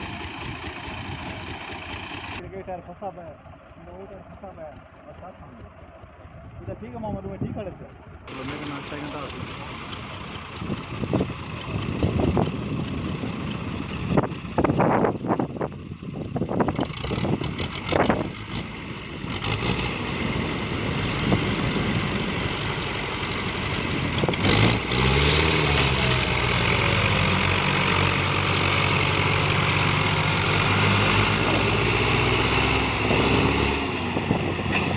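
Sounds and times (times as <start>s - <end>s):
tractor engine under load: 0.0s - 34.9s.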